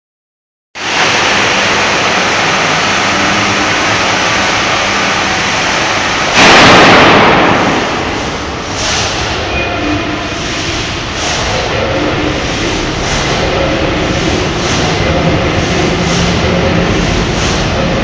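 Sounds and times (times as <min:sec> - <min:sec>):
large diesel engine running: 0:00.8 - 0:18.0
sudden rush of noise: 0:00.8 - 0:18.0.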